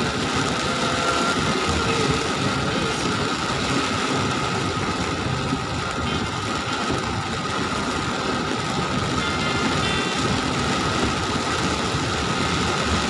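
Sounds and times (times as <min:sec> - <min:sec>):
car engine running: 0:00.0 - 0:13.0
heavy rain on a car: 0:00.0 - 0:13.0.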